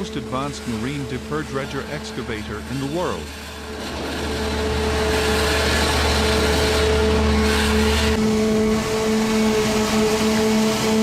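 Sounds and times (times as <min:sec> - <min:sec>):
heavy machinery droning: 0:00.0 - 0:11.0.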